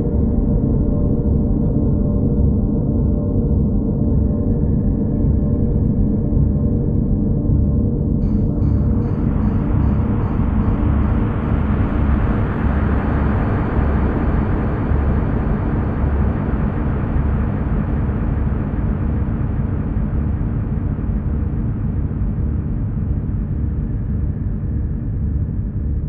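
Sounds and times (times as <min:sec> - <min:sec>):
dark ambient drone music: 0:00.0 - 0:26.0.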